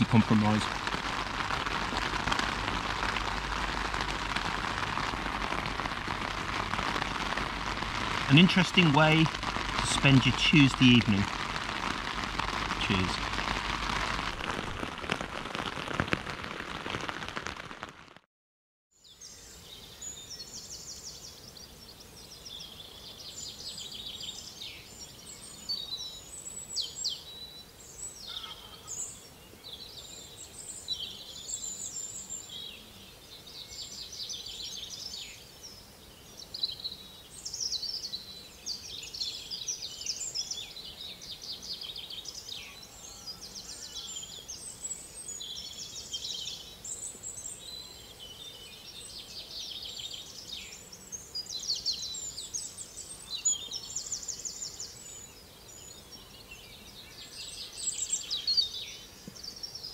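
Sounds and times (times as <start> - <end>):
songbirds singing: 0.0 - 14.6, 19.0 - 59.9.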